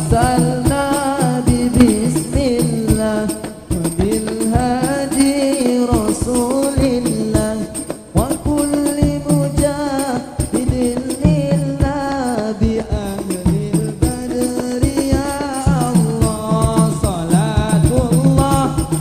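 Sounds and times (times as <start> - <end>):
person singing ornamented melody: 0.0 - 18.9
frame drums with jingles: 0.0 - 19.0.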